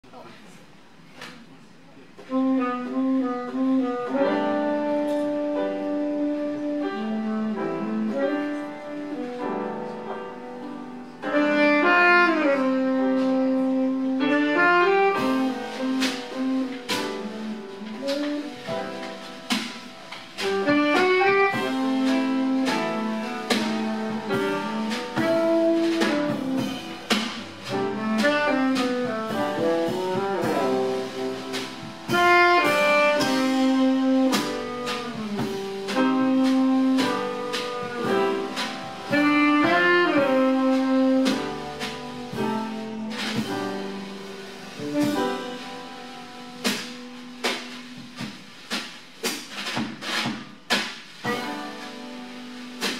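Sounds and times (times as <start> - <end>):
piano: 0.0 - 52.9
drum kit: 2.1 - 52.9
tenor saxophone melody: 2.3 - 48.2.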